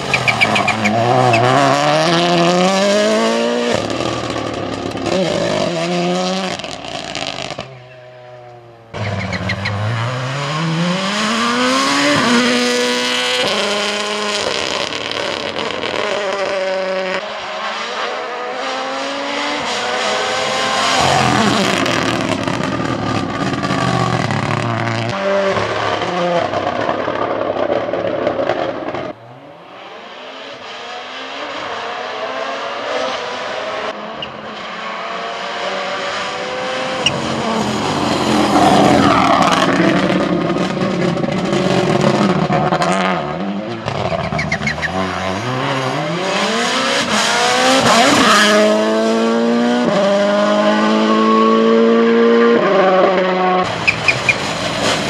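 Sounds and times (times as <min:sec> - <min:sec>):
car passing loudly: 0:00.0 - 0:43.9, 0:44.8 - 0:55.0
rally car engine revving: 0:00.0 - 0:55.0.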